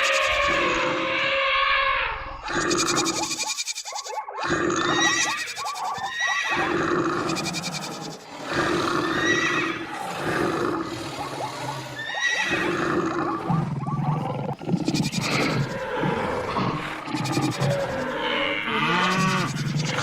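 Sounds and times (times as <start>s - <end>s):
animal cries: 0.0s - 20.0s.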